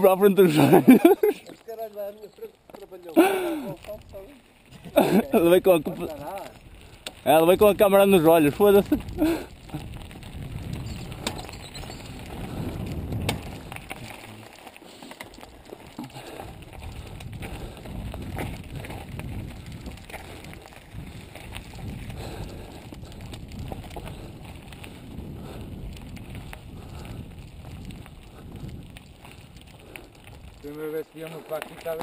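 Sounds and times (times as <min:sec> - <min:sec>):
bike rattling and clicking: 0:00.0 - 0:32.0
tyres crunching on gravel: 0:00.0 - 0:32.0.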